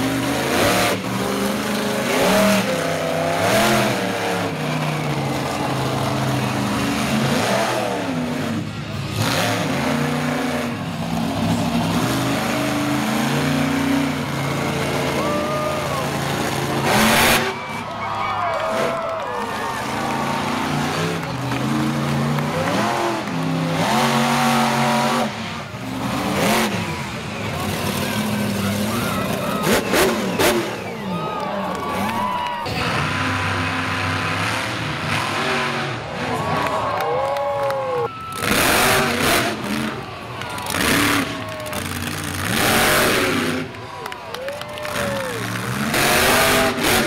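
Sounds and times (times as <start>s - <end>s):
monster truck engine revving: 0.0s - 47.0s.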